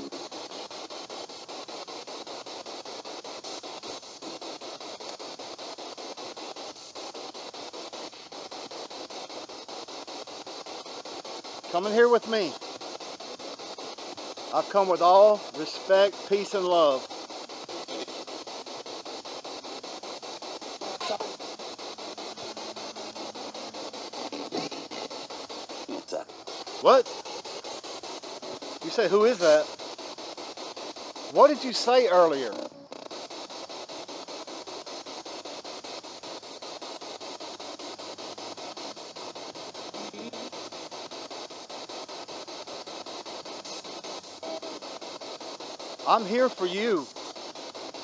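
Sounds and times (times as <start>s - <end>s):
choppy radio static: 0.0s - 48.0s.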